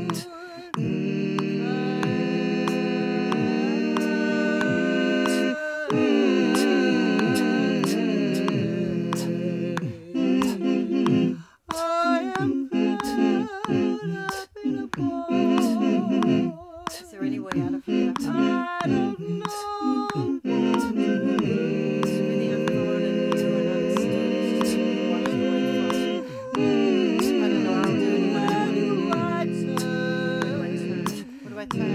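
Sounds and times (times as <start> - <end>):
gliding wordless vocal line: 0.0 - 31.9
short rhythmic clicks: 0.0 - 31.9
voices humming chords: 0.0 - 31.9.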